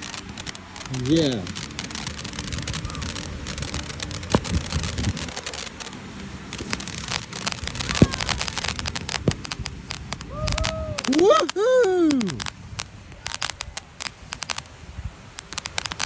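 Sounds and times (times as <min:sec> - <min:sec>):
hissing spattering rush: 0:00.0 - 0:16.0
sharp crackles and pops: 0:00.0 - 0:16.0.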